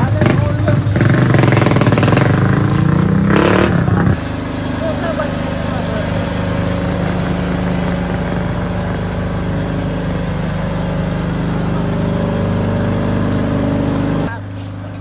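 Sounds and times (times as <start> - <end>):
road and wind noise: 0.0 - 15.0
vehicle engine running: 0.0 - 15.0.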